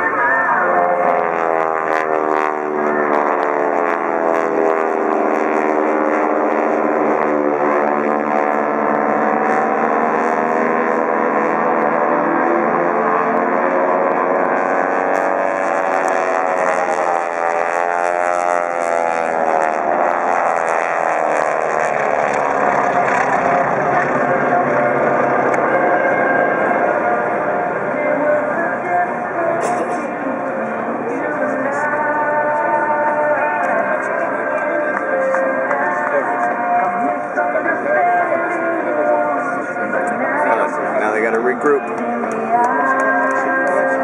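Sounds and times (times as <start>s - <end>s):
propeller aircraft passing by: 0.0s - 44.0s.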